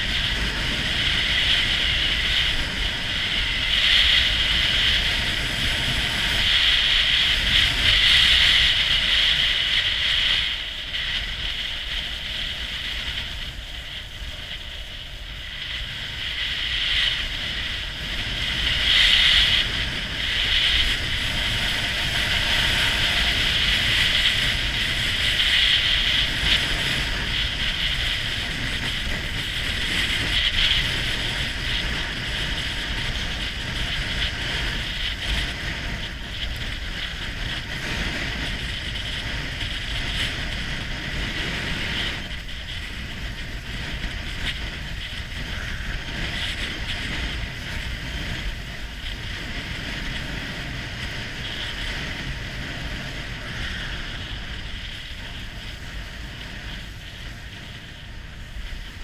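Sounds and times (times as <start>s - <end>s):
snowboard scraping over snow: 0.0s - 59.0s
wind buffeting microphone: 0.0s - 59.0s.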